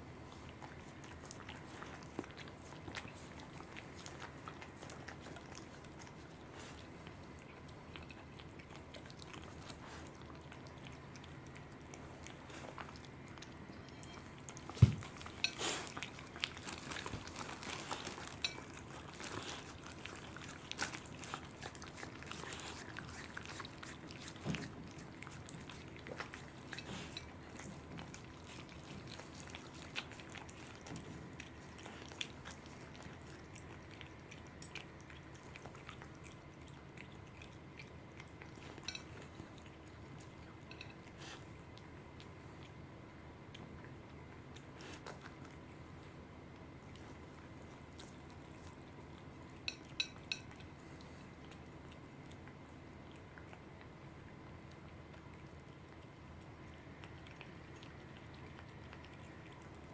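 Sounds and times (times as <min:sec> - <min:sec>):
animals chewing wetly: 0:00.0 - 0:59.9.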